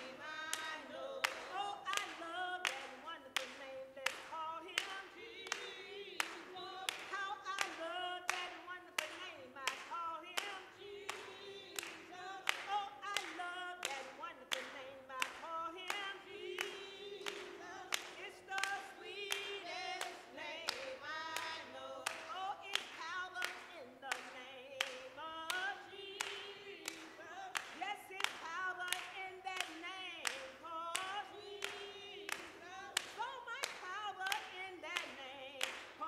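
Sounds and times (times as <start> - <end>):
hand claps: 0.0 - 36.0
women singing a cappella: 0.0 - 36.0.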